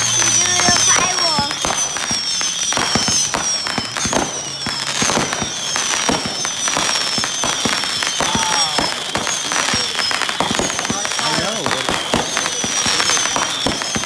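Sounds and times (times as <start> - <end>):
fireworks crackling pops and bangs: 0.0 - 14.0
high whistle falling in pitch: 0.0 - 14.0.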